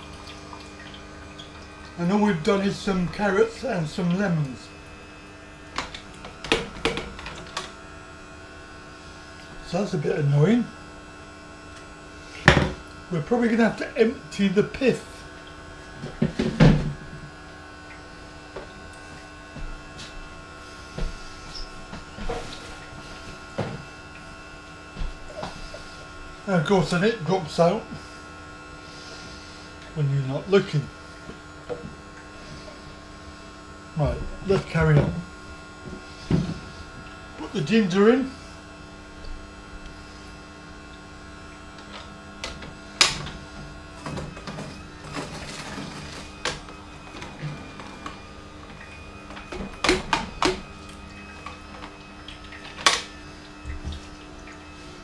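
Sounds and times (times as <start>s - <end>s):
juicer motor humming: 0.0s - 55.0s.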